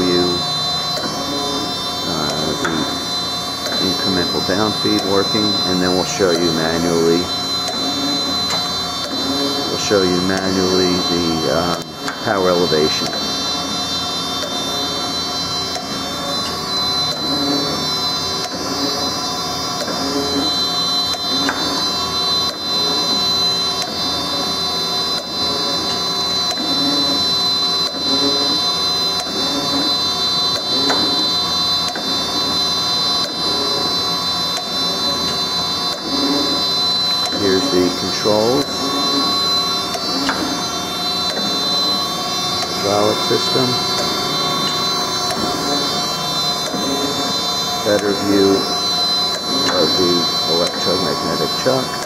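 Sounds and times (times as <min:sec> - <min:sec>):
grinder hum with high whine: 0:00.0 - 0:52.0.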